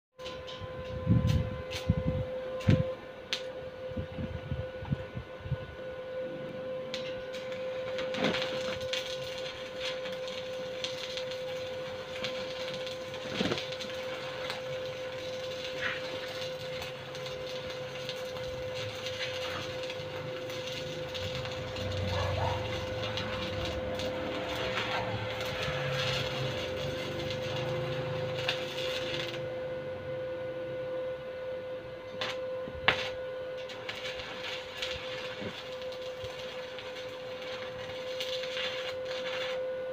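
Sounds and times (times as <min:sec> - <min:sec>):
welding arc crackling and sizzling: 0:00.2 - 0:03.6, 0:06.1 - 0:30.0, 0:32.0 - 0:39.9
steady hum: 0:00.2 - 0:39.9.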